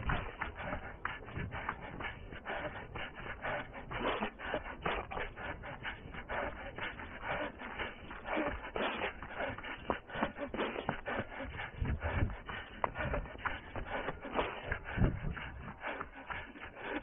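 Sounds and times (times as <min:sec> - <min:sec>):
hard breathing: 0:00.0 - 0:17.0
running footsteps on dirt: 0:00.0 - 0:17.0.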